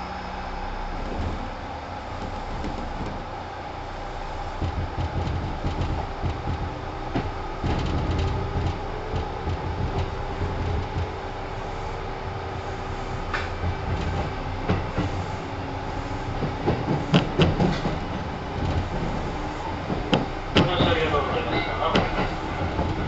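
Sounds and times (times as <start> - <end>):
train rumble: 0.0 - 23.0
wheels clacking over rail joints: 0.8 - 23.0.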